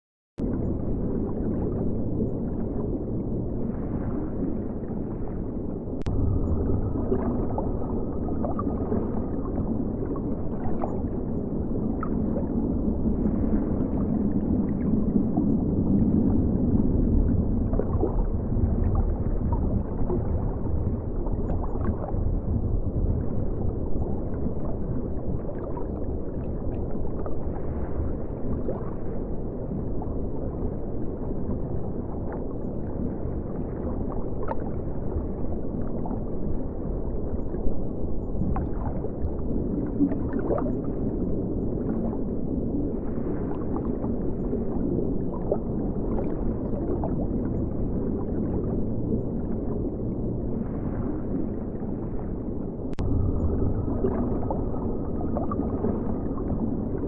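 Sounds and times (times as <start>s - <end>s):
underwater river rush: 0.4s - 57.0s.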